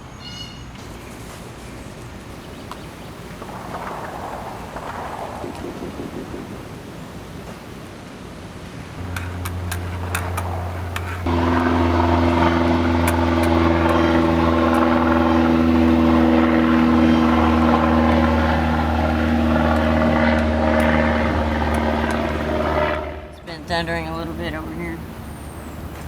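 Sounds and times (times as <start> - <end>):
engine droning: 0.8 - 26.0.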